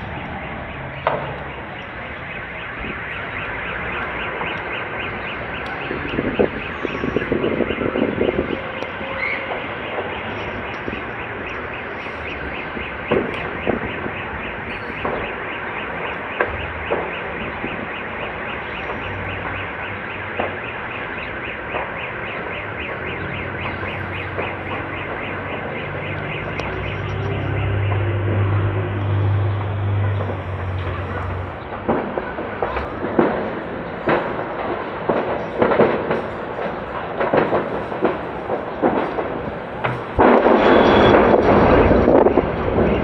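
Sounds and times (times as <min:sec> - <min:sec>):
large fire roaring: 0:00.0 - 0:43.0
sharp cracks: 0:00.0 - 0:43.0.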